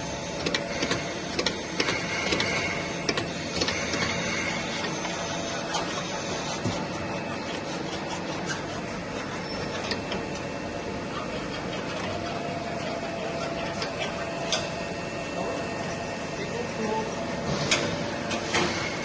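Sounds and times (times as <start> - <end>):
grinding machine hiss and hum: 0.0 - 19.0.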